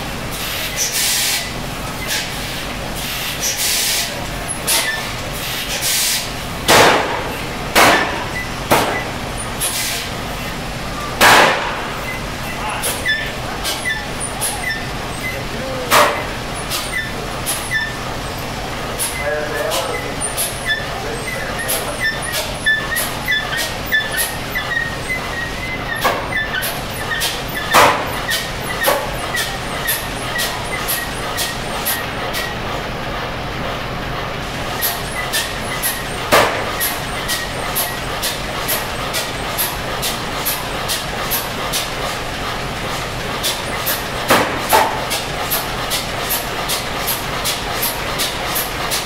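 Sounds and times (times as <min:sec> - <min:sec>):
diesel engine puffs: 0:00.0 - 0:49.0.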